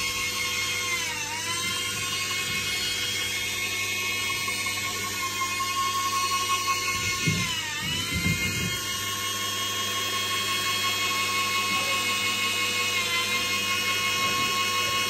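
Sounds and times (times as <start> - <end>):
high-pitched electric motor whine: 0.0 - 15.0.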